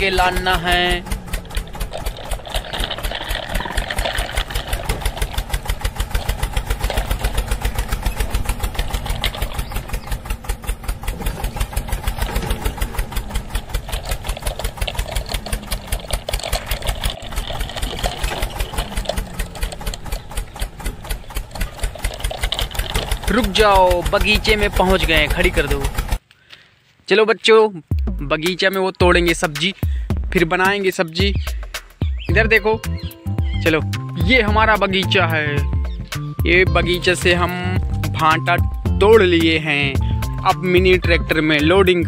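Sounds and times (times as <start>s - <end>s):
tractor engine chugging: 0.0s - 26.3s, 28.3s - 42.0s.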